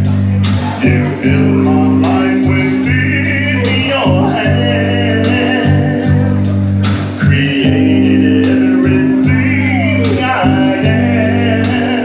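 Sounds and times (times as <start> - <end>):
backing music with bass and beat: 0.0 - 12.0
male vocal group singing: 0.8 - 6.6, 7.2 - 12.0.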